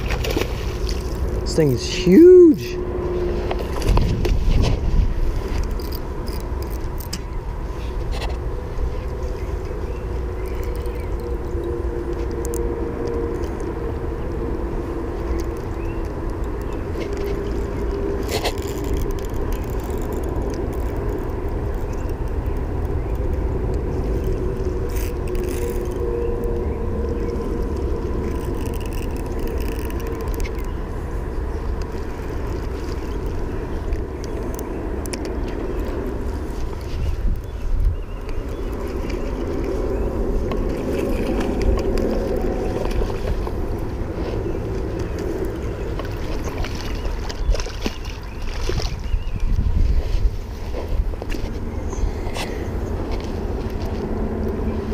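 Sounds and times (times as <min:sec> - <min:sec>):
steady hum: 0:00.0 - 0:48.8
wind rumble on microphone: 0:00.0 - 0:54.9.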